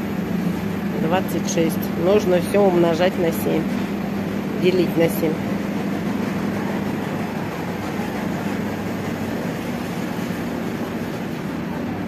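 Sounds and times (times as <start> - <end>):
air conditioning hum and hiss: 0.0 - 12.0.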